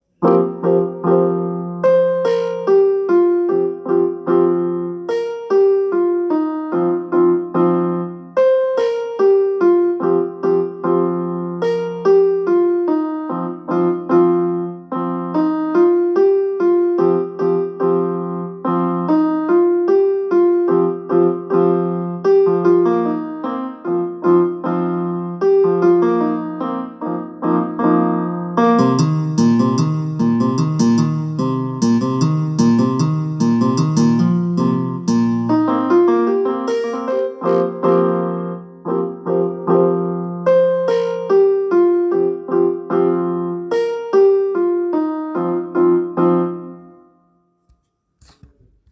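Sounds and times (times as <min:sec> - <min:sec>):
piano ringtone melody: 0:00.2 - 0:47.4.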